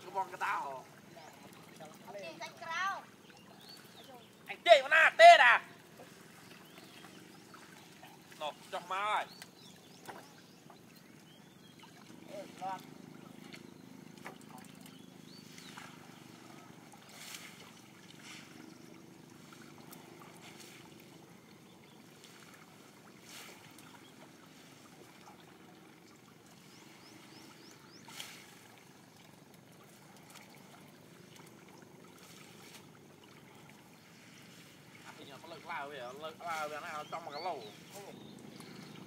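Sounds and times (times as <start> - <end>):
water trickling and splashing: 0.0 - 39.0.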